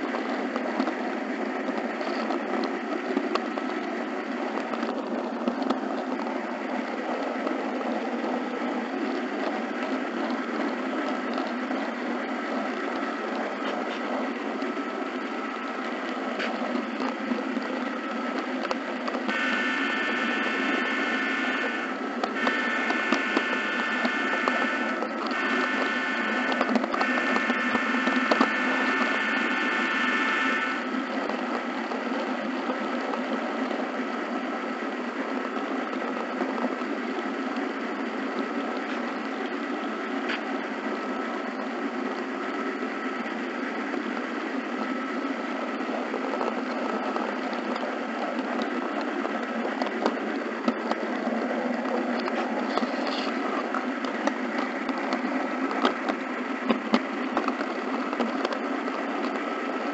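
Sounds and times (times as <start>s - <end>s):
model train whirring and rattling: 0.0s - 59.9s.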